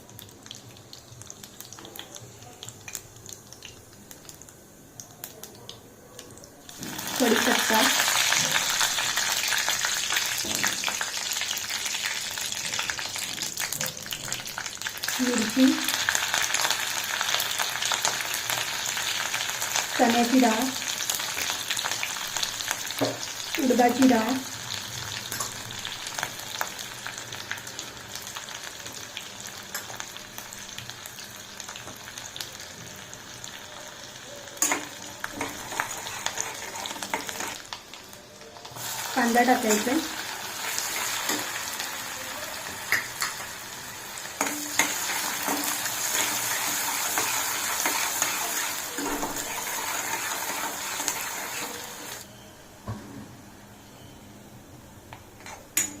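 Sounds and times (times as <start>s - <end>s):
leaves sizzling in hot oil: 0.0s - 5.6s, 6.6s - 52.3s.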